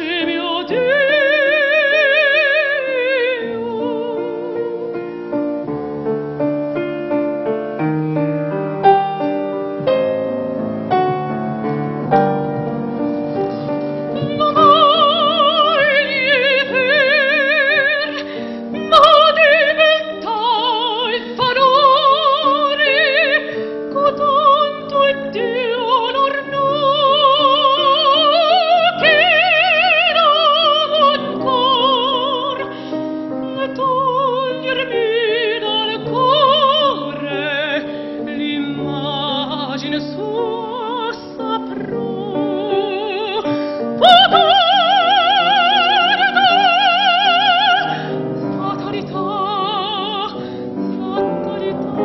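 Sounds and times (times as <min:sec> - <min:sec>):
soprano singing opera: 0:00.0 - 0:05.6, 0:13.1 - 0:52.0
grand piano accompaniment: 0:00.0 - 0:52.0.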